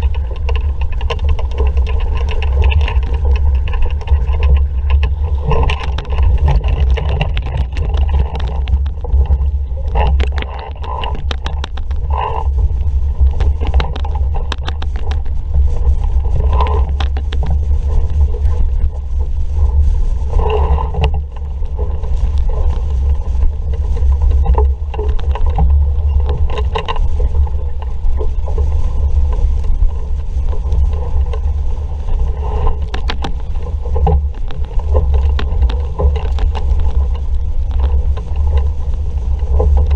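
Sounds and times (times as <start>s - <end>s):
knocks and rattles: 0.0s - 19.0s, 20.3s - 39.9s
water splashing along hull: 0.0s - 39.9s
wind rumble on microphone: 0.0s - 39.9s.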